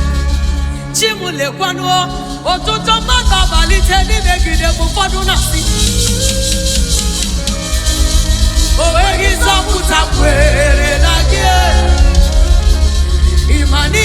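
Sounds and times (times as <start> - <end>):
person singing: 0.0 - 7.6, 8.7 - 14.0
live gospel band: 0.0 - 14.0.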